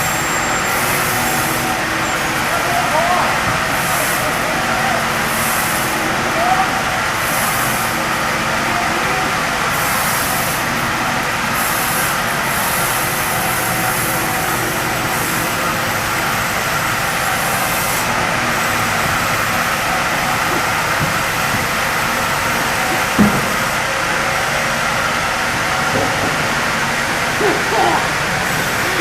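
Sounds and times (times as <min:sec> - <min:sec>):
heavy machinery drone: 0:00.0 - 0:29.0.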